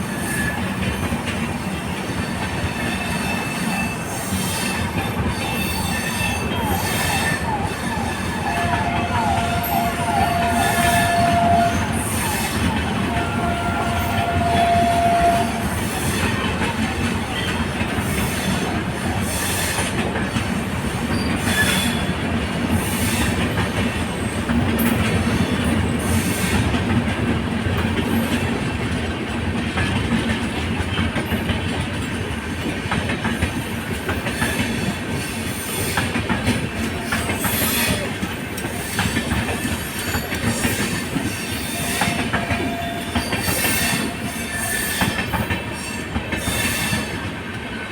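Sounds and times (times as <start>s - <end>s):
train wheels clattering on rails: 0.0s - 47.9s.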